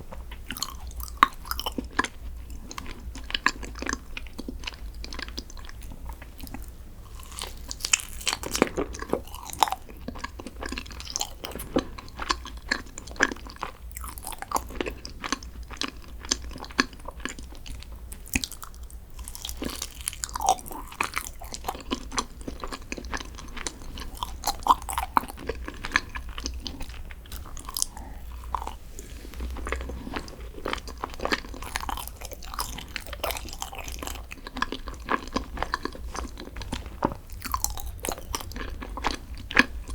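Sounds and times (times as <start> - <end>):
chewing crisp food: 0.0 - 39.9.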